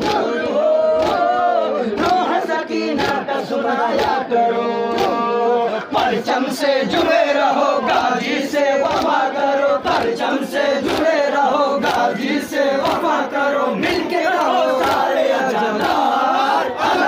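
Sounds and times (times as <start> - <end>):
crowd of men chanting: 0.0 - 17.0.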